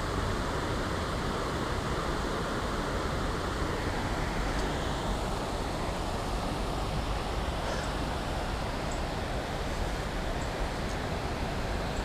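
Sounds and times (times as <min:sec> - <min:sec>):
steady rushing outdoor noise: 0:00.0 - 0:12.0.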